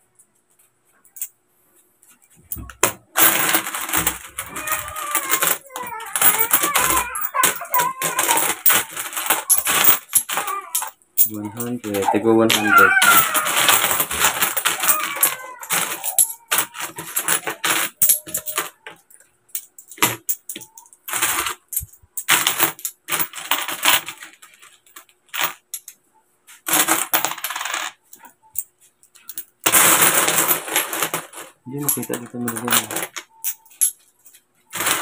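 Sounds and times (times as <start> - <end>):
coins clinking and jingling: 2.5 - 18.9, 19.5 - 26.0, 26.7 - 35.0.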